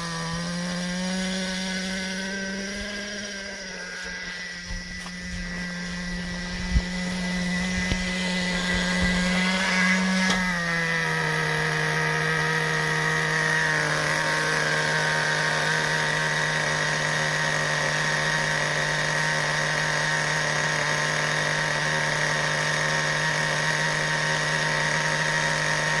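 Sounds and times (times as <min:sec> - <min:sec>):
small engine idling buzz: 0:00.0 - 0:26.0.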